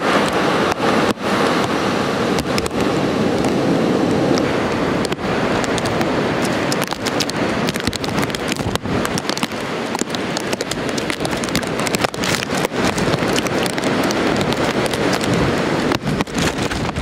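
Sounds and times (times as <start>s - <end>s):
heavy surf rushing: 0.0s - 17.0s
strong wind buffeting microphone: 0.0s - 17.0s.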